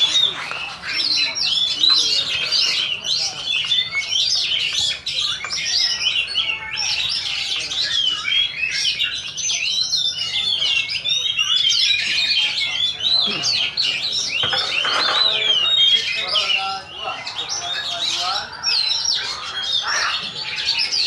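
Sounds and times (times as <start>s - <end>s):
birds singing in chorus: 0.0s - 21.0s.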